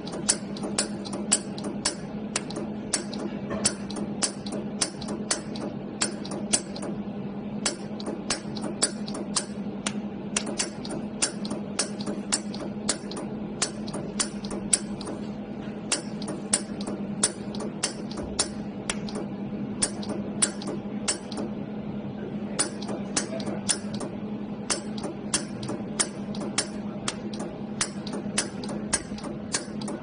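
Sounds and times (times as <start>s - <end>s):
laser welder snapping clicks: 0.0s - 7.0s, 7.6s - 15.2s, 15.9s - 21.5s, 22.6s - 24.1s, 24.7s - 30.0s
machine low hum: 0.0s - 30.0s.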